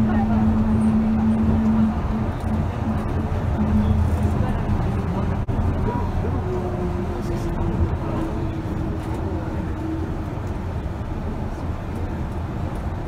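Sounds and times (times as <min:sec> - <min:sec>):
train tyres rumbling: 0:00.0 - 0:13.0.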